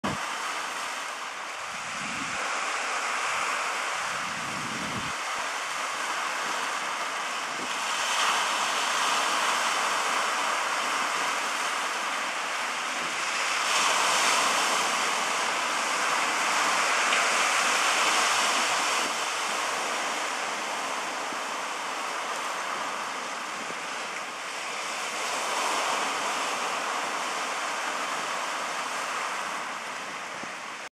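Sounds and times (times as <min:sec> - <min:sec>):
surf washing over stony beach: 0:00.0 - 0:30.9.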